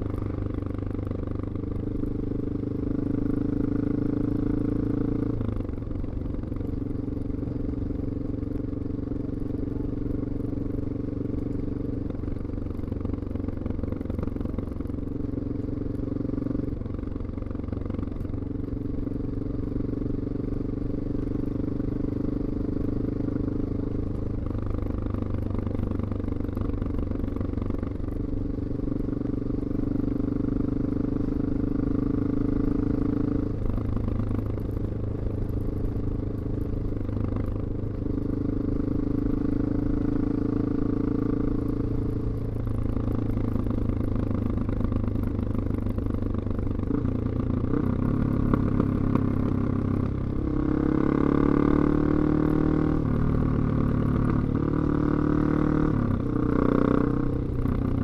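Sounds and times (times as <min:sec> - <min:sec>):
motorcycle engine while riding: 0:00.0 - 0:58.0.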